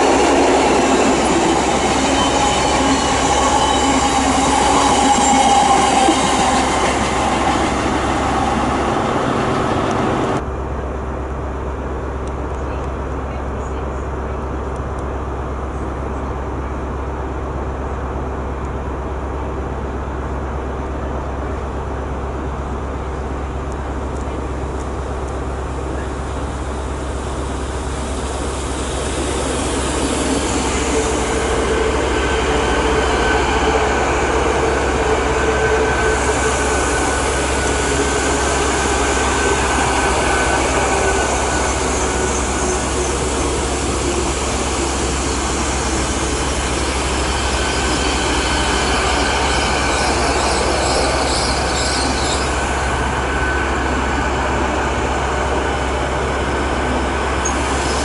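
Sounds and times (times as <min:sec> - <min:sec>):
train rumble: 0:00.0 - 0:58.0
train whine: 0:00.0 - 0:58.0.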